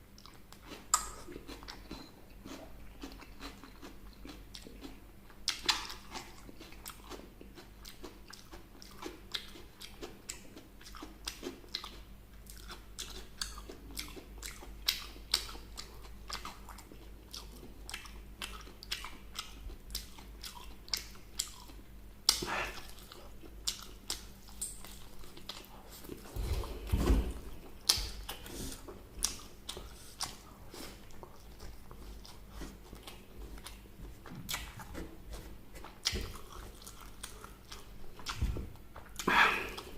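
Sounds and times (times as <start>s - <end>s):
crunchy chewing: 0.2s - 39.9s.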